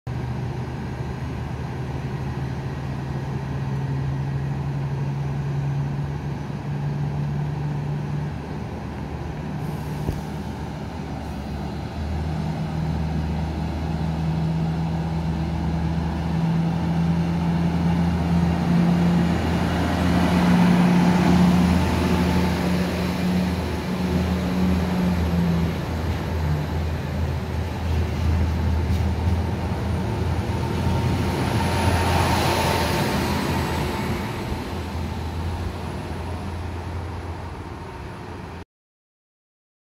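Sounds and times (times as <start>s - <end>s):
train running gear hum: 0.1s - 38.6s.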